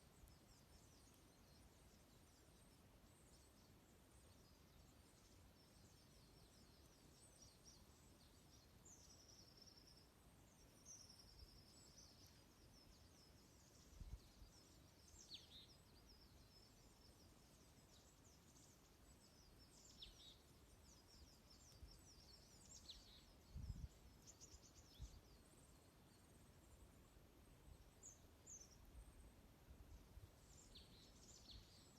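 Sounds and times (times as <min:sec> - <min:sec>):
songbirds chirping and twittering: 0:00.0 - 0:31.9.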